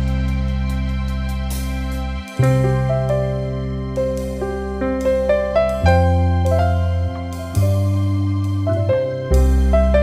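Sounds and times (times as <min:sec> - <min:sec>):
soft music with held chord: 0:00.0 - 0:10.0.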